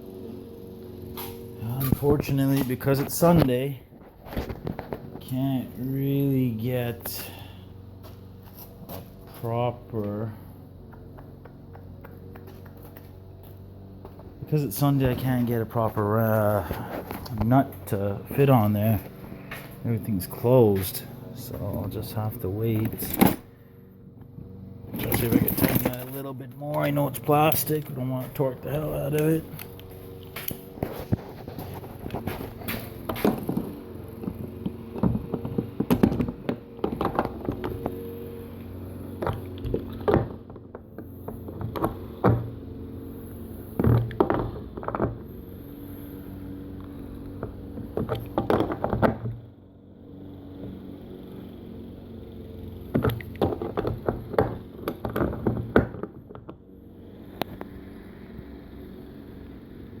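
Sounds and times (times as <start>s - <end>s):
lawnmower droning: 0.0s - 60.0s.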